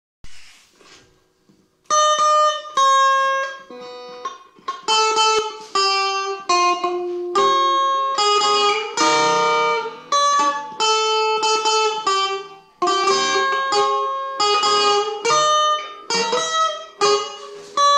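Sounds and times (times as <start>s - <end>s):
guitar handling noise: 0.2s - 17.9s
electric guitar slow melody: 1.9s - 17.9s.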